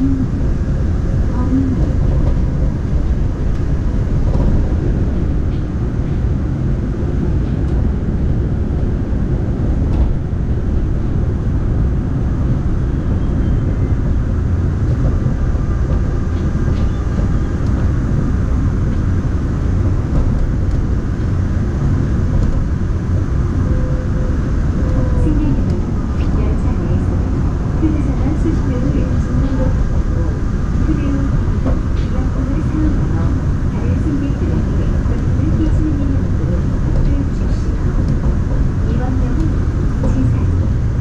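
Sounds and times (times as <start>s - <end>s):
monorail car running rumble: 0.0s - 41.0s.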